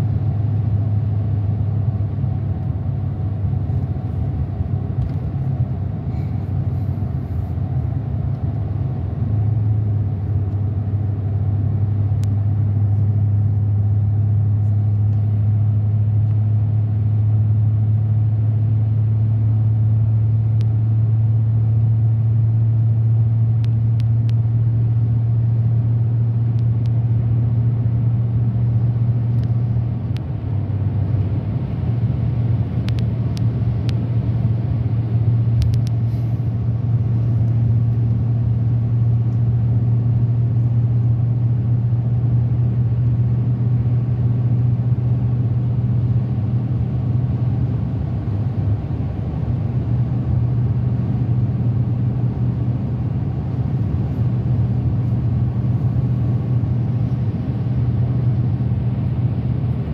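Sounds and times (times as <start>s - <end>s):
car cabin drone: 0.0s - 59.9s.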